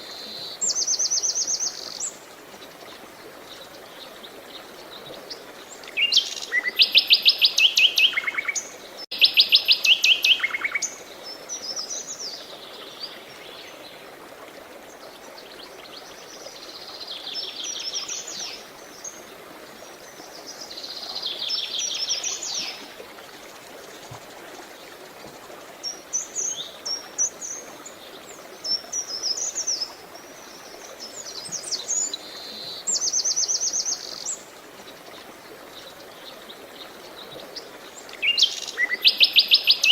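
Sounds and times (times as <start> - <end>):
running water hiss: 0.0 - 39.9.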